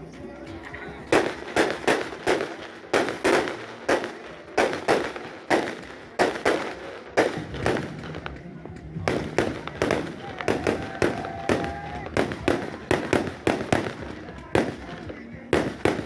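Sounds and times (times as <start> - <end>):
fireworks banging: 0.0 - 16.0.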